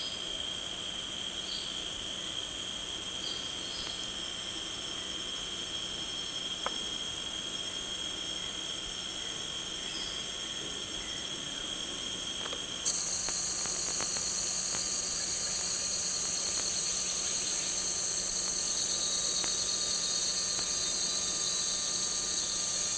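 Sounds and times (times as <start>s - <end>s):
insect chorus buzzing: 0.0s - 22.9s.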